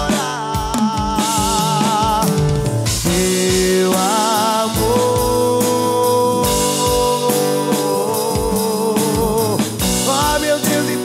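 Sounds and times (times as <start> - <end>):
acoustic guitar: 0.0 - 11.0
man singing long note with vibrato: 0.0 - 11.0.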